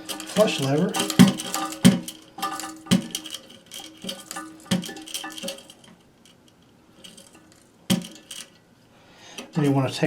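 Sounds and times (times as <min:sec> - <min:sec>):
metal chain clinking on toilet tank: 0:00.0 - 0:08.7.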